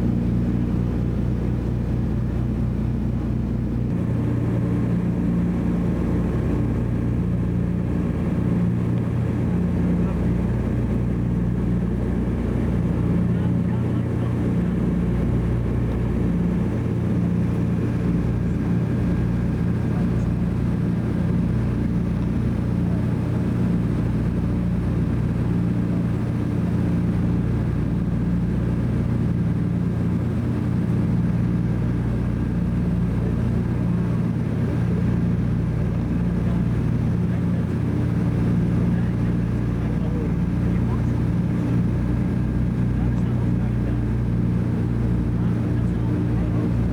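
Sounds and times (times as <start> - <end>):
propeller plane engines droning: 0.0 - 46.9.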